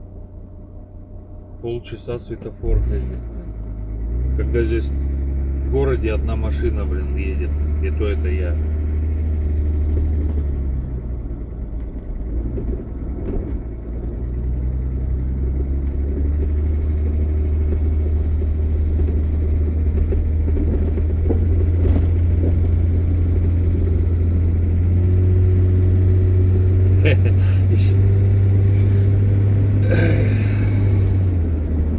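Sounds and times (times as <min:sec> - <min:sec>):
vehicle engine droning: 0:00.0 - 0:31.9.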